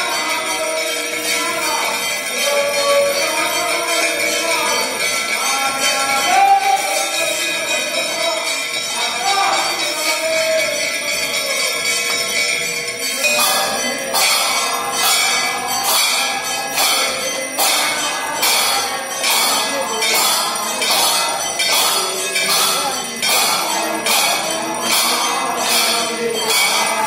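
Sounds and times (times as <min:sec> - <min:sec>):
temple bell strikes: 0:00.0 - 0:27.0.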